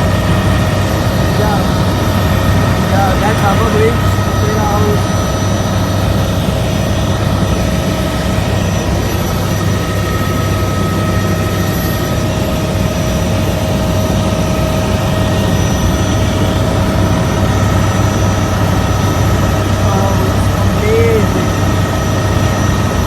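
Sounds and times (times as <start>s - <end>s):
helicopter engine and rotor drone: 0.0s - 23.0s
high whine: 0.0s - 23.0s.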